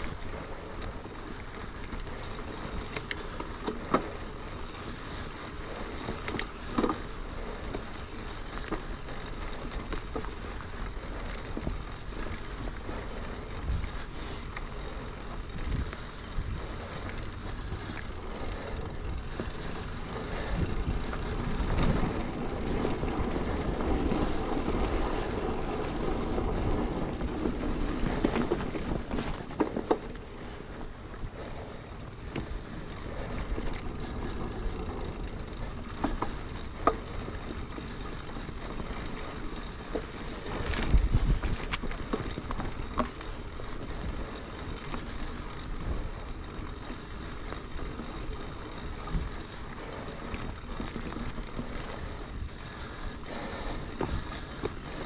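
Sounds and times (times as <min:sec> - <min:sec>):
bike knocking and rattling: 0:00.0 - 0:55.0
tyres rolling on dirt: 0:00.0 - 0:55.0.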